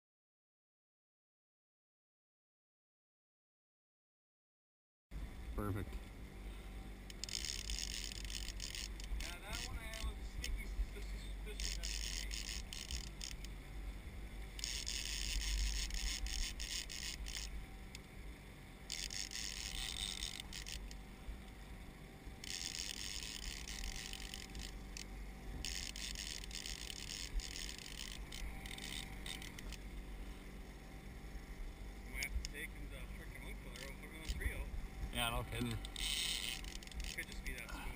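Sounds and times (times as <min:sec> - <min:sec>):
boat motor droning: 0:05.2 - 0:37.9.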